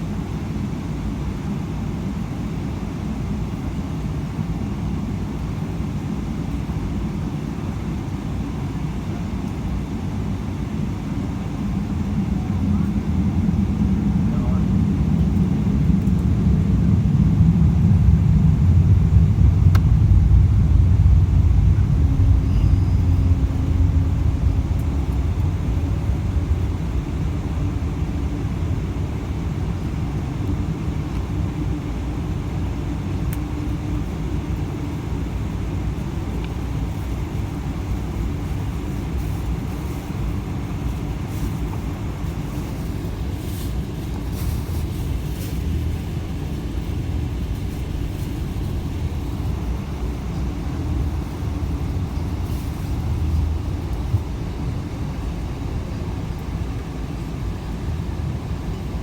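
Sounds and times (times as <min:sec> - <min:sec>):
moving vehicle rumble: 0:11.3 - 0:59.0.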